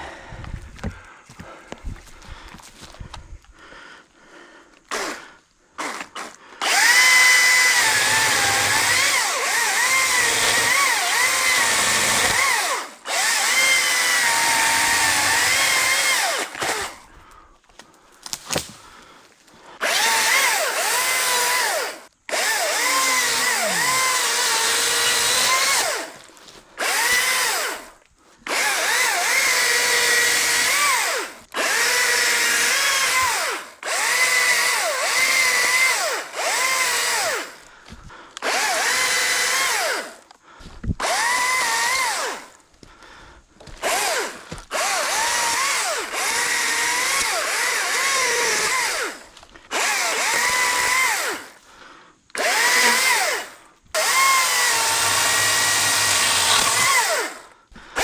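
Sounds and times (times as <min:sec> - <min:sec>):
chainsaw cutting wood: 0:04.8 - 0:17.2, 0:19.8 - 0:51.7, 0:52.3 - 0:58.0.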